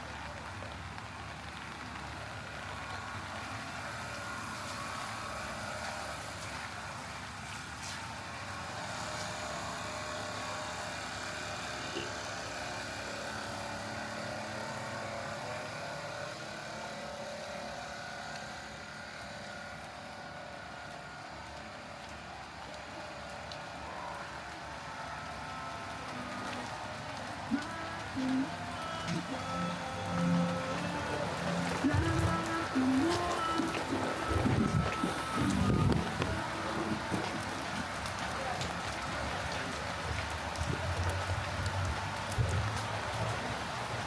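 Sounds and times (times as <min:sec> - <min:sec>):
steady rain: 0:00.0 - 0:44.0
vehicle engine humming: 0:00.0 - 0:44.0.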